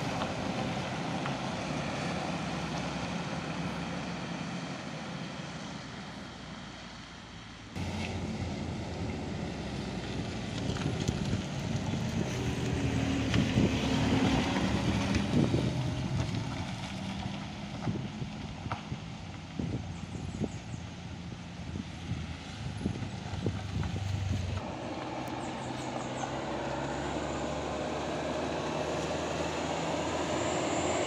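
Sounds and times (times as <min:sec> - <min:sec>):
van driving on gravel road: 0:00.0 - 0:31.0
vehicle engine: 0:00.0 - 0:31.0.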